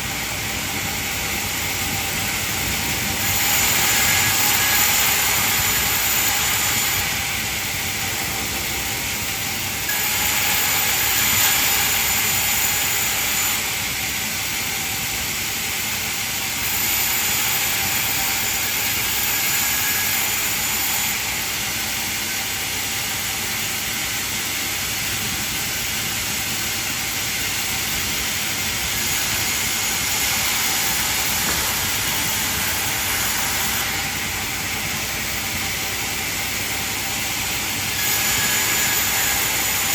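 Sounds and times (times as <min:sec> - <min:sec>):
band saw whining through timber: 0:00.0 - 0:39.9.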